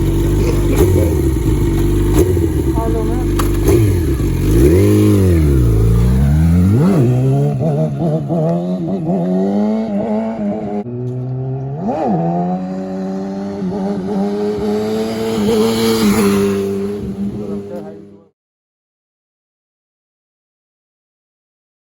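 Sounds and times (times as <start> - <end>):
small vehicle engine revving: 0.0 - 18.2.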